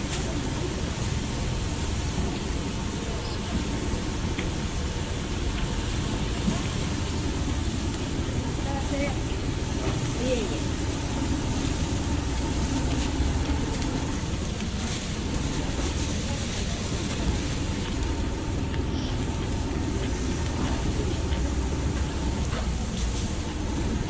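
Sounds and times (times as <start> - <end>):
grill flame rushing: 0.0 - 24.0.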